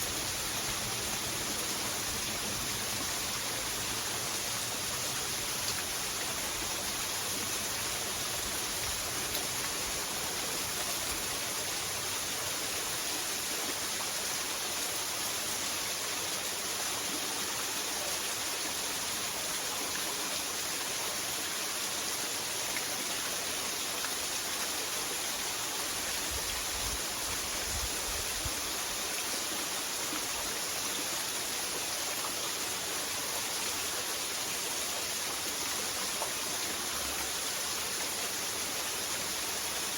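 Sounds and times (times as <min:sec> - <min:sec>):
water rushing from small waterfall: 0:00.0 - 0:39.9.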